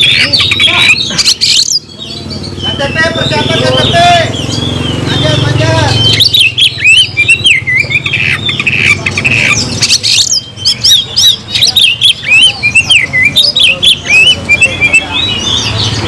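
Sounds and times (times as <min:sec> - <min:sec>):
songbird singing loudly: 0:00.0 - 0:16.0.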